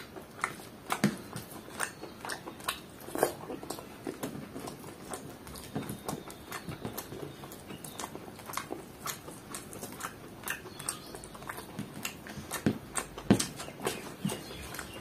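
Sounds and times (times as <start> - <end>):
chewing and mouth smacks: 0.0 - 15.0
fingers mixing rice on paper plate: 0.0 - 15.0.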